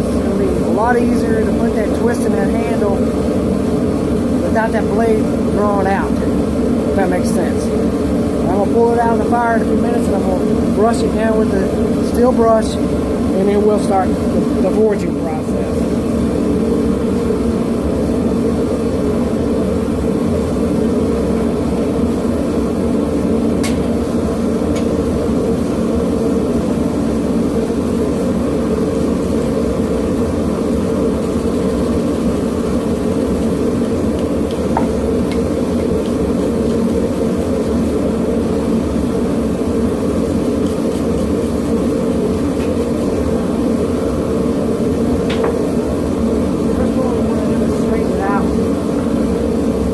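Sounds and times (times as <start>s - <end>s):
forge burner roaring: 0.0s - 49.9s.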